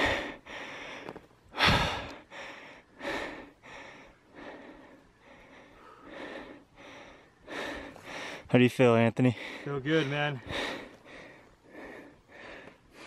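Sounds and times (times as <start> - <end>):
man breathing hard: 0.0 - 8.5, 9.3 - 13.0.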